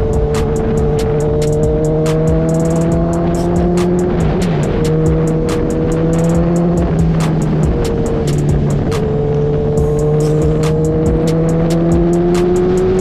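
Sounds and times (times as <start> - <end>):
motorcycle engine cruising: 0.0 - 13.0
music with ticking beat: 0.0 - 13.0.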